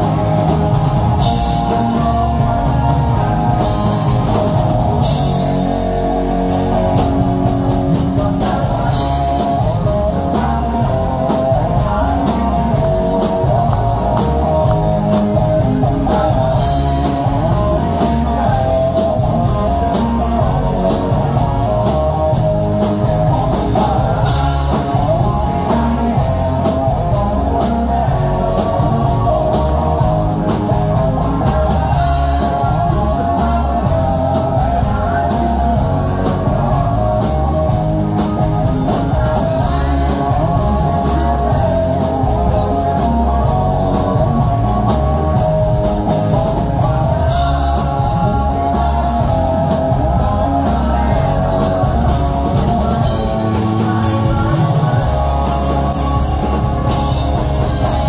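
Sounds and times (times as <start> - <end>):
drum kit: 0.0 - 58.0
electric guitars: 0.0 - 58.0
man singing: 0.0 - 58.0.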